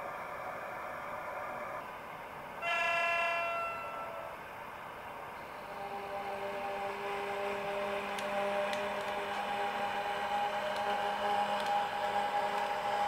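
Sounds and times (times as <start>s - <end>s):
model locomotive electric hum: 0.0s - 13.0s.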